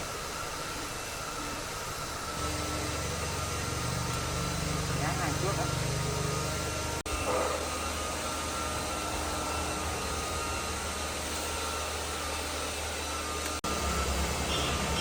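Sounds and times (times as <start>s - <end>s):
heavy machinery droning: 0.0s - 15.0s.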